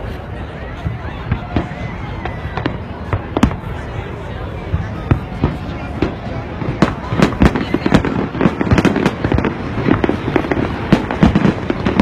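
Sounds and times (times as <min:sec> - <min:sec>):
fireworks bangs and crackles: 0:00.0 - 0:12.0
rumble of explosions: 0:00.0 - 0:12.0.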